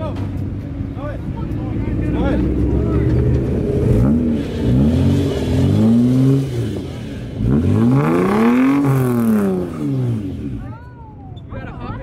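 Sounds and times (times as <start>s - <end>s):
car engine revving: 1.0s - 10.8s.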